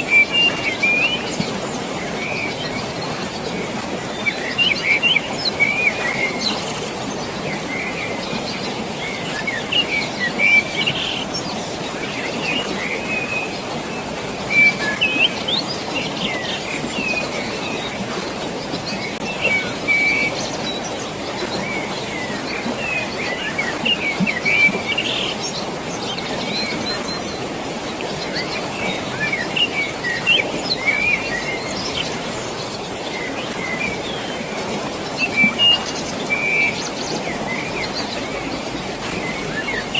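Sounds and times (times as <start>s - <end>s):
birds chirping: 0.0s - 39.9s
flowing water: 0.0s - 39.9s.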